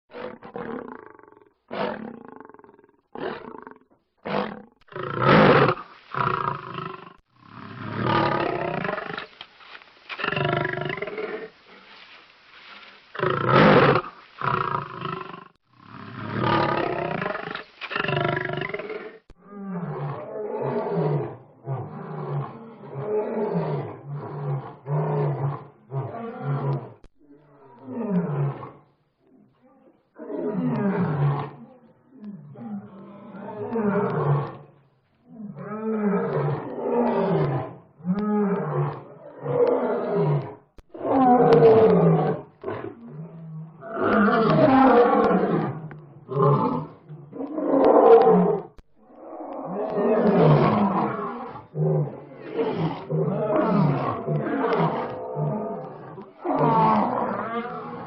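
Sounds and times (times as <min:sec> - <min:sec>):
lion growling: 0:00.1 - 0:28.8, 0:35.3 - 0:58.0.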